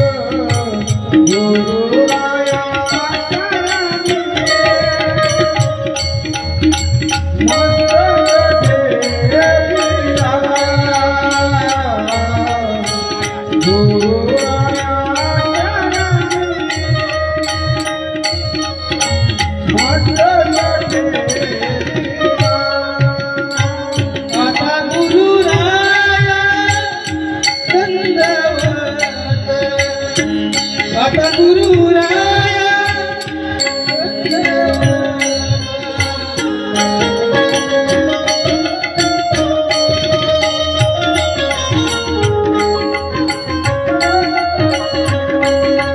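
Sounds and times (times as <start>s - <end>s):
gliding devotional melody: 0.0s - 45.9s.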